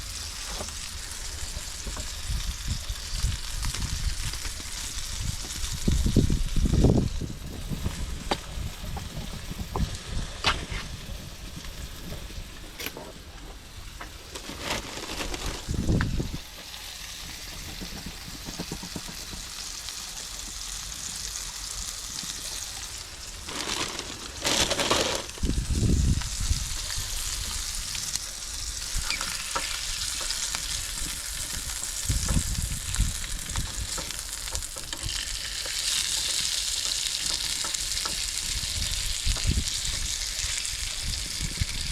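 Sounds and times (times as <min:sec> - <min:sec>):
food sizzling in a pan: 0:00.0 - 0:12.4, 0:15.6 - 0:24.4, 0:25.2 - 0:41.9.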